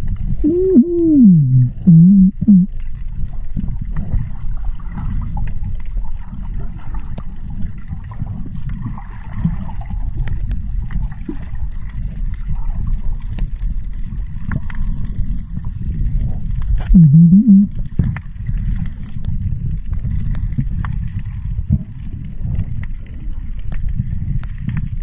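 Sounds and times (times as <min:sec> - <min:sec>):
low underwater rumble: 0:00.0 - 0:25.0.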